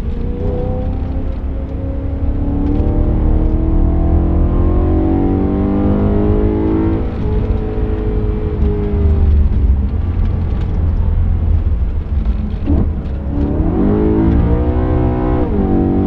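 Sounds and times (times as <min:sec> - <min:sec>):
car engine accelerating: 0:00.0 - 0:16.0
road and wind rumble: 0:00.0 - 0:16.0.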